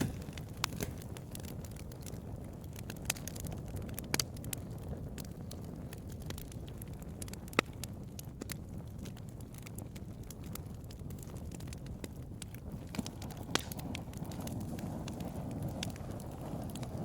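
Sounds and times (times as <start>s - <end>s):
bonfire crackling and popping: 0.0s - 17.0s
low fire rumble: 0.0s - 17.0s.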